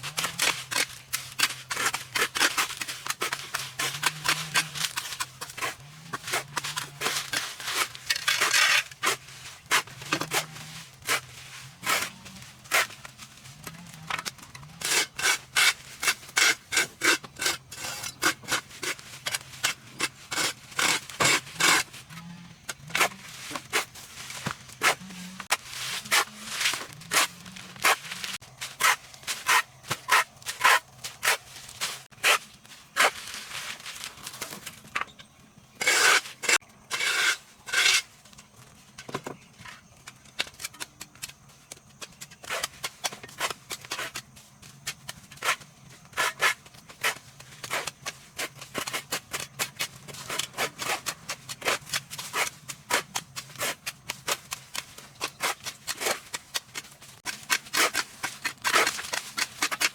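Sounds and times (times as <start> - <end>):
sharp scrapes and clicks: 0.0 - 35.1, 45.0 - 59.9.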